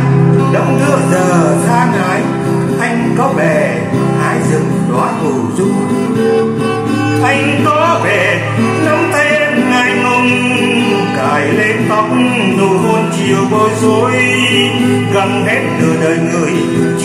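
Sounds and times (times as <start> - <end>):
man singing slow song: 0.0 - 6.4, 7.0 - 17.0
acoustic guitar: 0.0 - 17.0.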